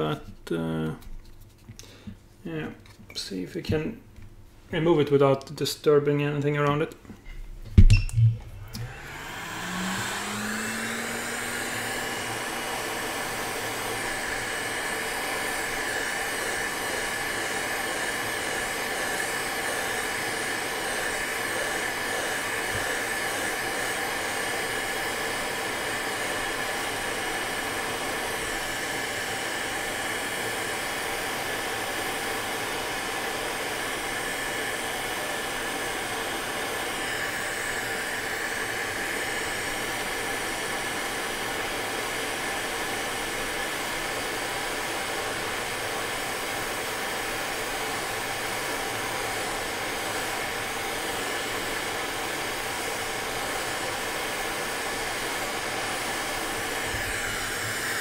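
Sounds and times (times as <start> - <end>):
hot-air station hissing with faint whine: 0.0 - 58.0.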